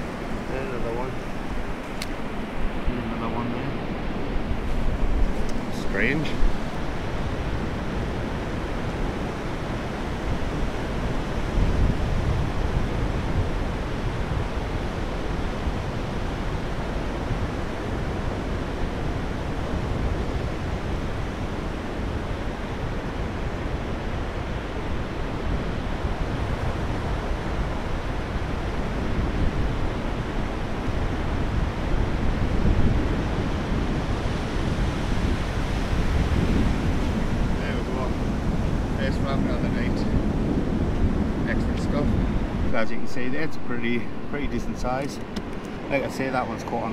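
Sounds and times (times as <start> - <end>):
waves breaking on beach: 0.0 - 46.9
wind on microphone: 0.0 - 46.9.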